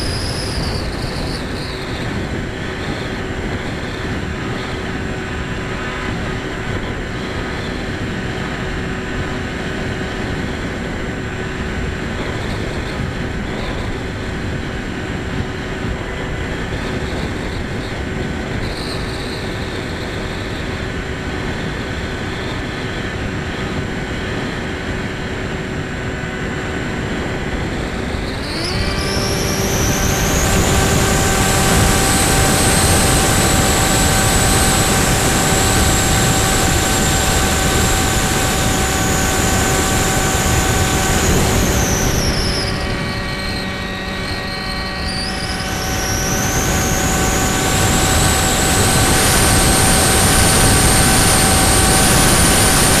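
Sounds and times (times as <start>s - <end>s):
electric motor whine: 0.0s - 53.0s.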